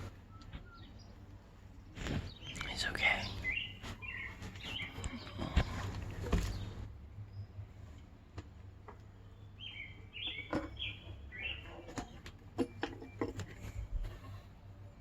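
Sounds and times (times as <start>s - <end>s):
small bird chirping: 0.0s - 1.3s, 1.9s - 7.6s, 9.0s - 14.1s.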